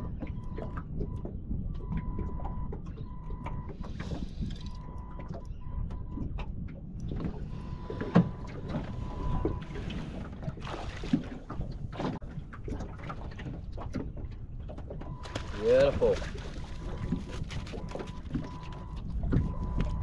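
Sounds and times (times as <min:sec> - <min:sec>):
water slapping boat hull: 0:00.0 - 0:20.0
wind buffeting microphone: 0:00.0 - 0:20.0.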